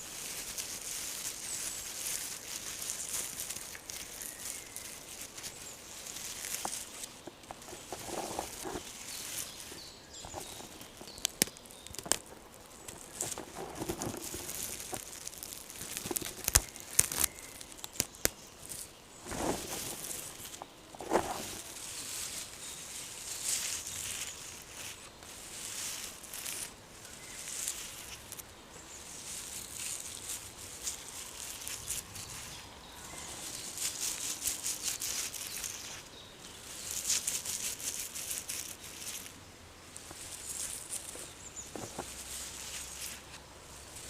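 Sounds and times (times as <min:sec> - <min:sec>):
dry leaves rustling and crackling: 0:00.0 - 0:44.0.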